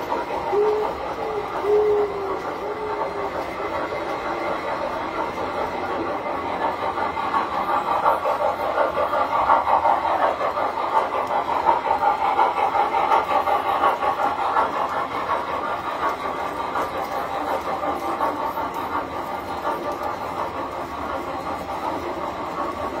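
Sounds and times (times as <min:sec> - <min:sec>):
model train rattling rumble: 0:00.0 - 0:23.0.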